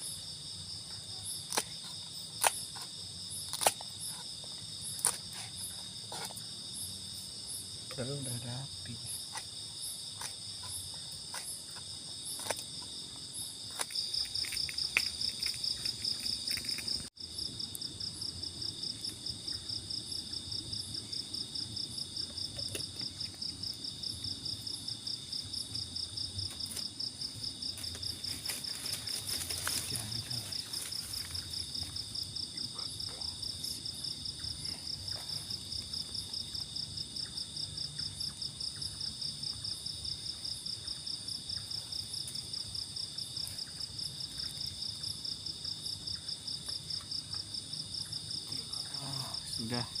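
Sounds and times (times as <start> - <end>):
insects chorus pulsing: 0.0 - 50.0.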